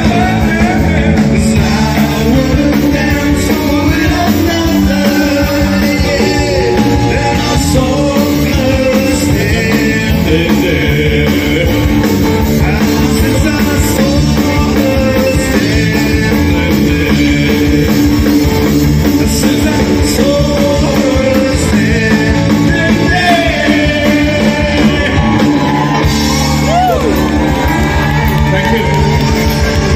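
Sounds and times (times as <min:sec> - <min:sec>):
man singing: 0:00.0 - 0:27.2
rock band playing: 0:00.0 - 0:29.9.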